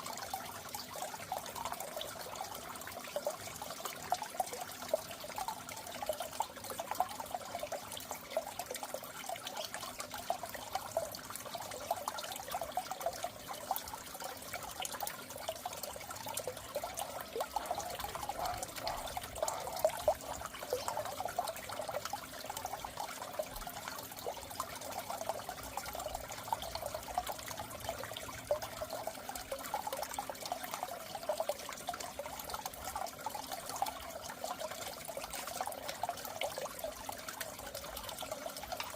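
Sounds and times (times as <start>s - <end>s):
water trickling in aquarium: 0.0s - 38.9s.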